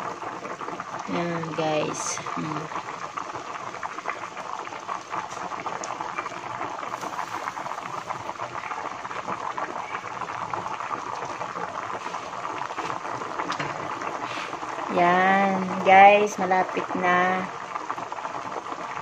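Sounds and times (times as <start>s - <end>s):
soup bubbling and popping: 0.0s - 19.0s.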